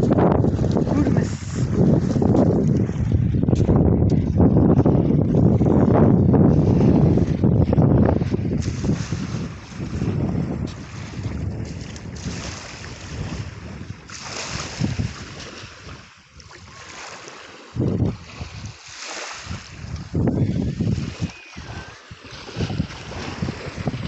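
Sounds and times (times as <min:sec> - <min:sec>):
waves washing on beach: 0:00.0 - 0:03.4, 0:06.5 - 0:24.0
wind buffeting microphone: 0:00.0 - 0:17.0, 0:17.7 - 0:24.0.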